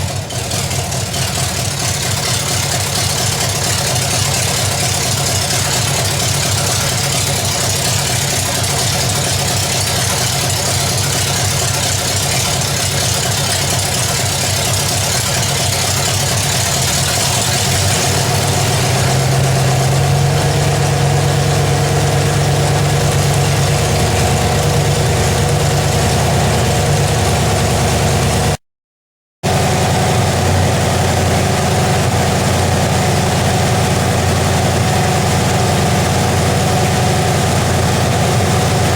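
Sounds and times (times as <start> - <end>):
v eight engine idling: 0.0 - 28.6, 29.4 - 38.9.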